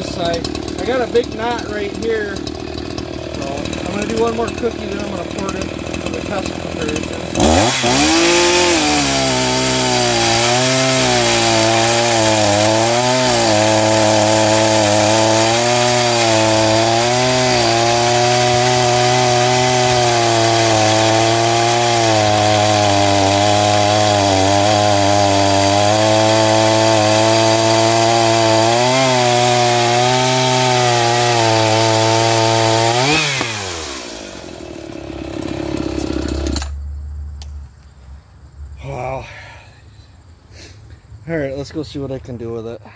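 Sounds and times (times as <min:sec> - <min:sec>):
chainsaw cutting through log: 0:00.0 - 0:36.8.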